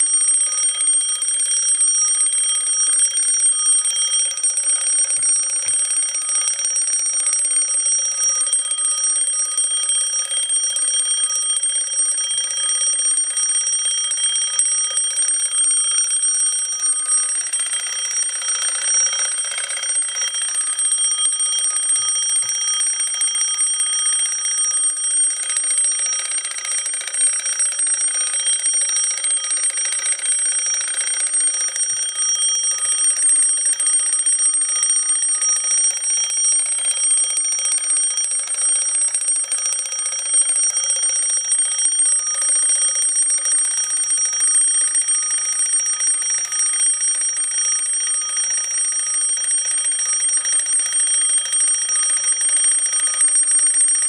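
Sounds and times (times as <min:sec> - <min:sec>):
alarm clock bell ringing: 0:00.0 - 0:54.0.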